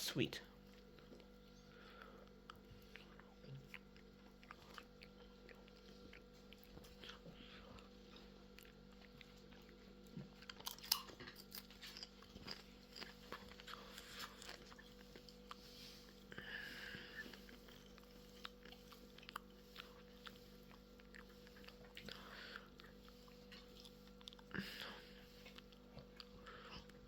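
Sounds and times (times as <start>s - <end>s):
person chewing popcorn: 0.1s - 27.0s.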